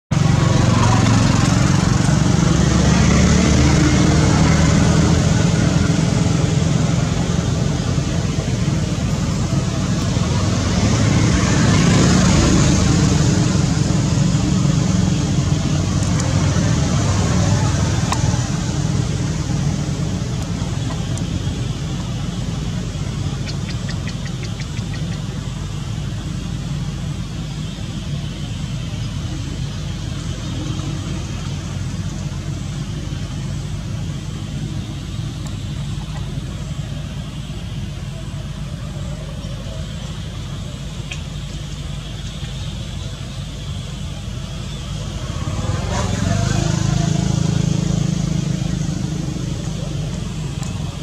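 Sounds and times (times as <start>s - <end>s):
vehicle engine rumble: 0.0s - 51.0s.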